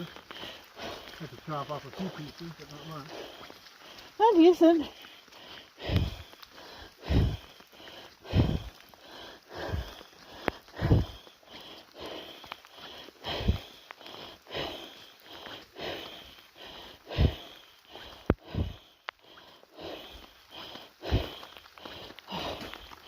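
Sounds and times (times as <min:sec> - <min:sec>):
person breathing and sniffing: 0:00.0 - 0:01.4, 0:05.0 - 0:23.0
footsteps on wet trail: 0:00.0 - 0:23.0.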